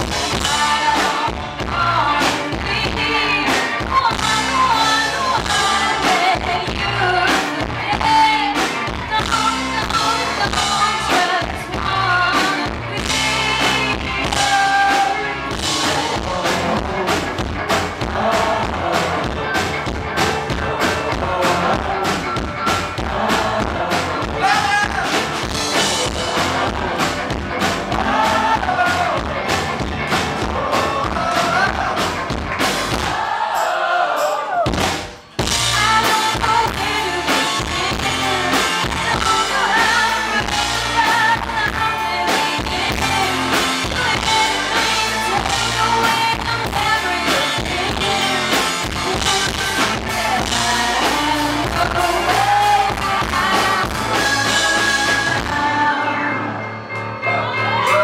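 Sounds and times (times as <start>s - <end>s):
person singing: 0.0s - 19.8s, 20.4s - 29.6s, 35.5s - 58.0s
rock band playing: 0.0s - 58.0s.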